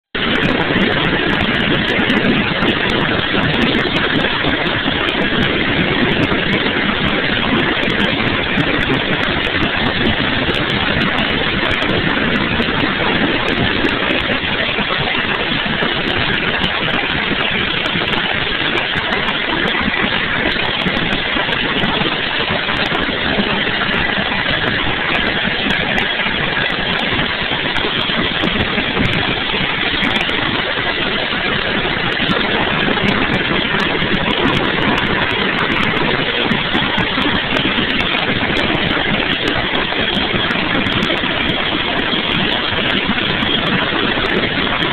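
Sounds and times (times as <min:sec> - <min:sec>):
helicopter engines and rotor: 0:00.1 - 0:44.9.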